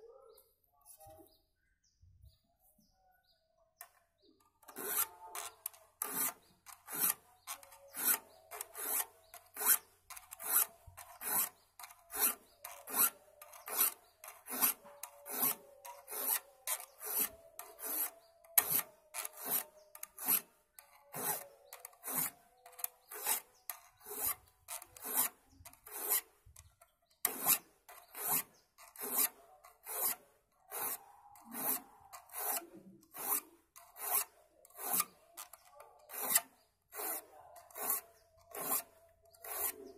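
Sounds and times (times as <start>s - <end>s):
file rasping on saw teeth: 4.6s - 39.9s.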